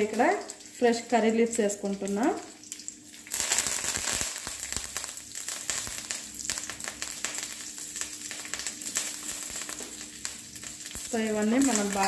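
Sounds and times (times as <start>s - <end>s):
leaves crackling in hot oil: 0.0s - 12.0s.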